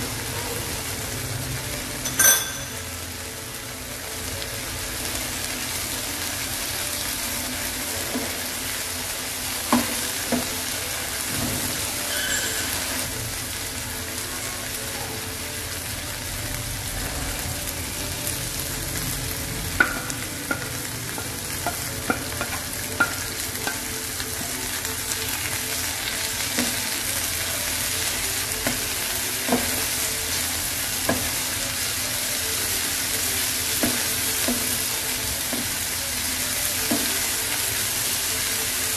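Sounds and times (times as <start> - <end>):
corn kernels sizzling in a pan: 0.0 - 38.9.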